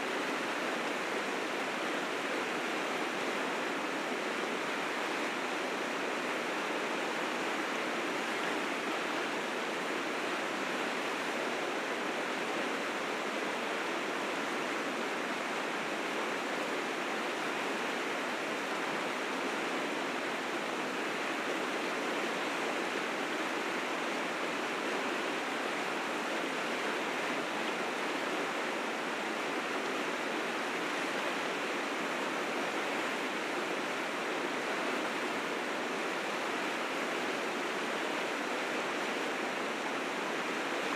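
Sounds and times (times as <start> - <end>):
river rapids rushing: 0.0 - 40.9.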